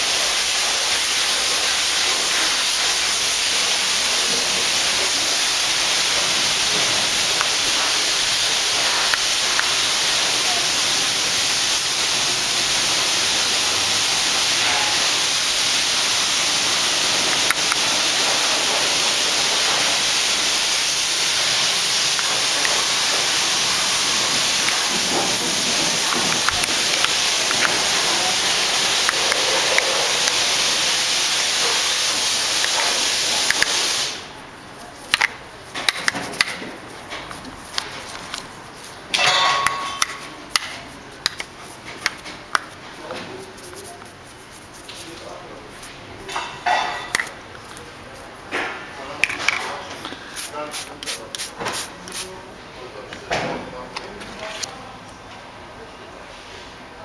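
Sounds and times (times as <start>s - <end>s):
steady spraying hiss: 0.0s - 49.6s, 50.3s - 52.5s.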